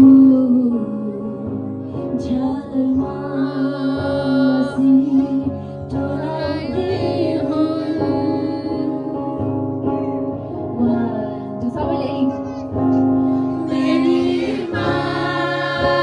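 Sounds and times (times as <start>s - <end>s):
woman singing: 0.0s - 12.5s, 13.2s - 16.0s.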